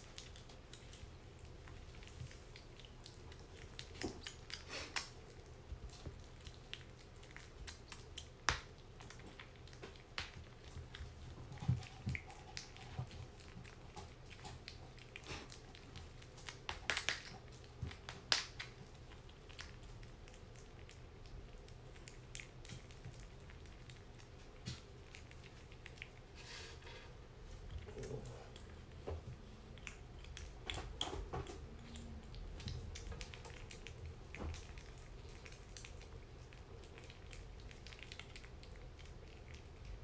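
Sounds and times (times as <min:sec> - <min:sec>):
kitten chewing and lapping food: 0:00.0 - 0:40.0.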